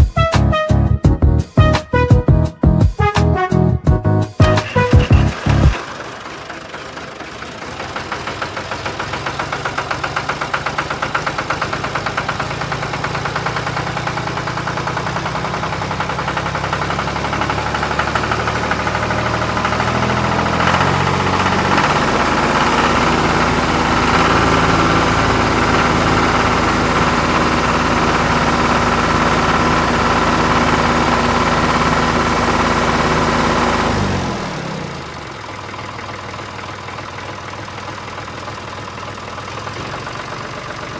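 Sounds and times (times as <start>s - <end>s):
engine idling: 4.4s - 40.9s.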